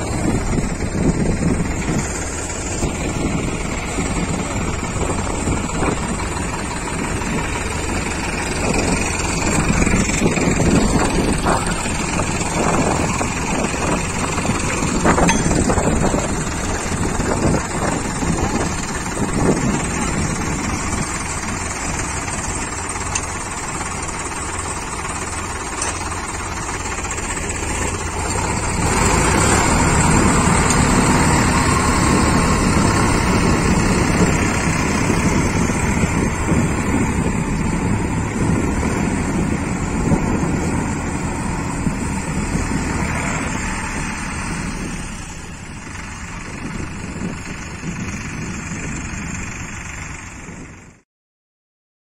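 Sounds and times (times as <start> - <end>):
tractor diesel engines rumbling: 0.0 - 51.0.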